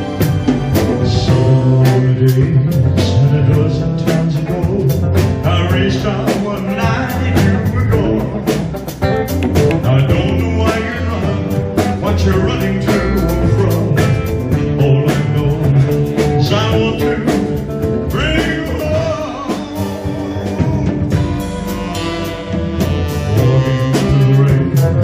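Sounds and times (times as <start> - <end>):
live band playing country-rock: 0.0 - 25.0.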